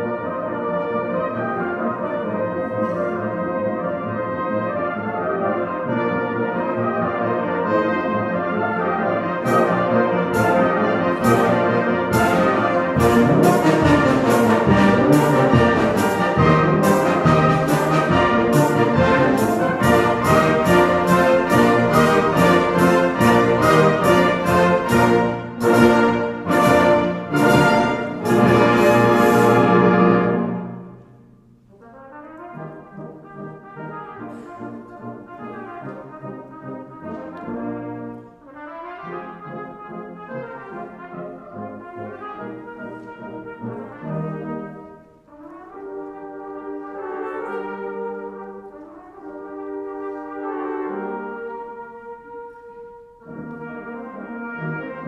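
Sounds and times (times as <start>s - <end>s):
orchestral music led by brass: 0.0s - 55.0s.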